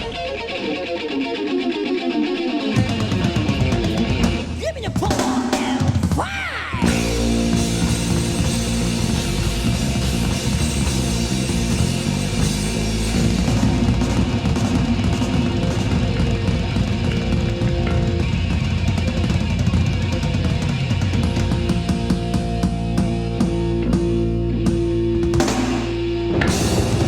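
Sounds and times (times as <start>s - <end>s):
electric guitar lead: 0.0s - 5.6s, 6.6s - 27.0s
heavy metal band playing: 0.0s - 27.0s.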